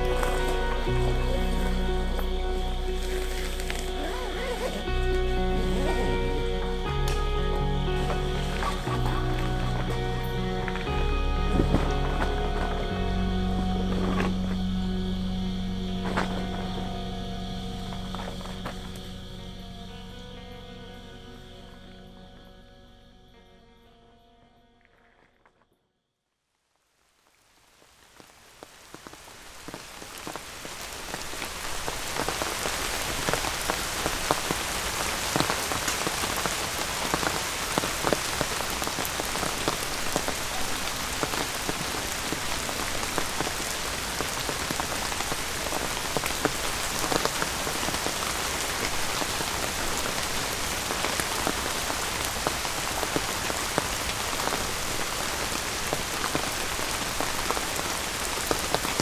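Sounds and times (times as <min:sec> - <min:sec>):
steady rain falling: 0:00.0 - 0:20.8, 0:27.0 - 0:59.0.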